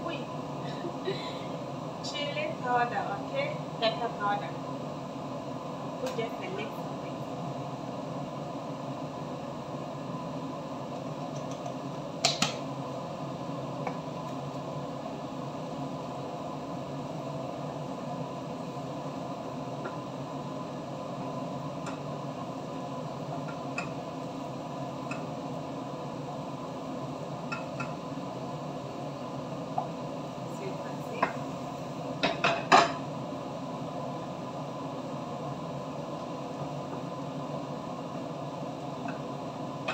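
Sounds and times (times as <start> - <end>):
kitchen ventilation fan hum: 0.0 - 39.9.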